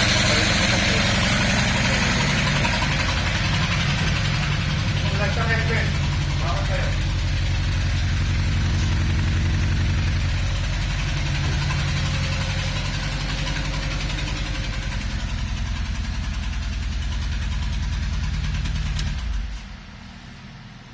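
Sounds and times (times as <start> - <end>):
car engine idling roughly: 0.0 - 20.9.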